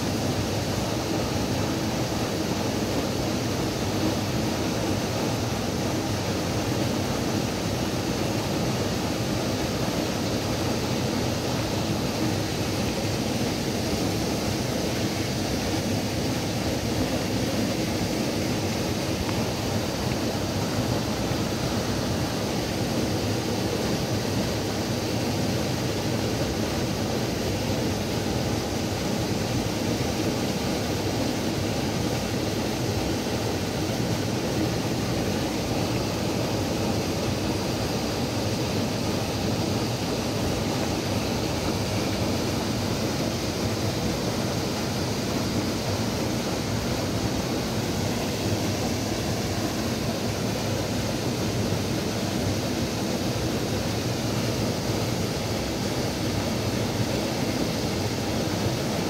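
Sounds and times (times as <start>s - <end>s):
waterfall and river rushing: 0.0s - 59.0s.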